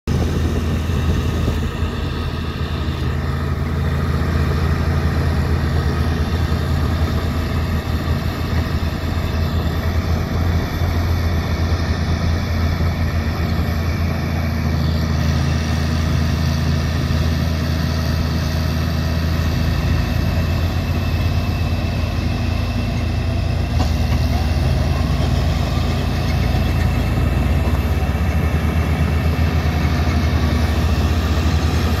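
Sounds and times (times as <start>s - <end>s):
heavy diesel engines droning: 0.0s - 32.0s.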